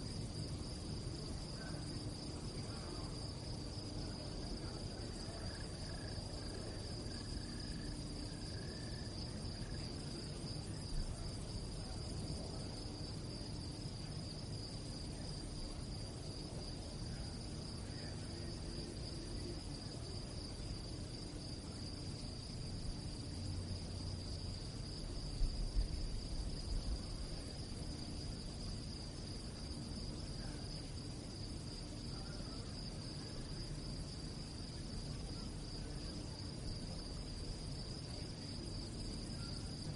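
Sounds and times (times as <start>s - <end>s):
crickets singing: 0.0s - 39.9s.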